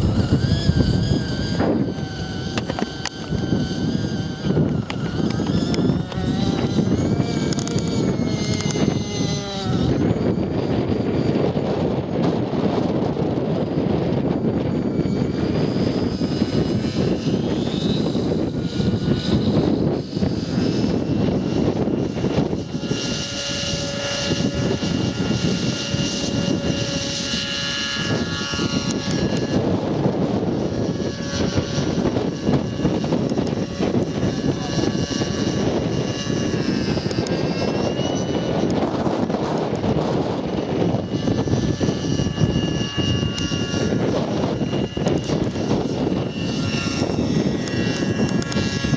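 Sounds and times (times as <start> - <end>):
rc helicopter engine whining: 0.0 - 48.9.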